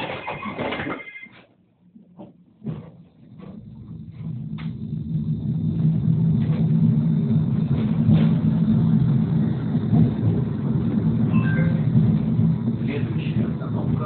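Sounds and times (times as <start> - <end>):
tram rumble inside car: 1.8 - 14.0.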